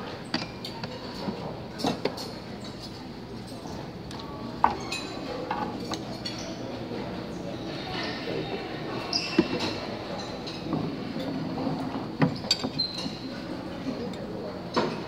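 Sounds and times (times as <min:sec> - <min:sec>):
background chatter: 0:00.0 - 0:15.0.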